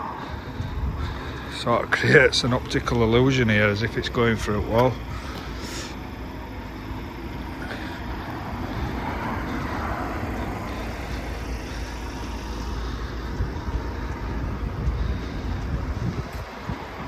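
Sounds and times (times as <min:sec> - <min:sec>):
wind buffeting microphone: 0:00.0 - 0:05.4, 0:08.2 - 0:17.0
low rumble of road traffic: 0:00.0 - 0:17.0.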